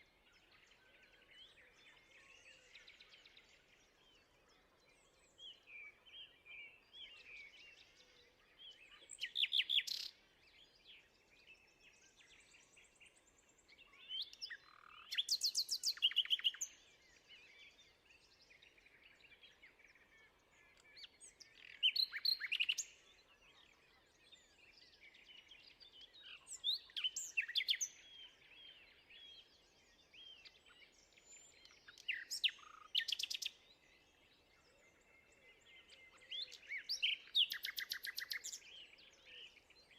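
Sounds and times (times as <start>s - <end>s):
soft bird chirps and calls: 0.0s - 39.9s.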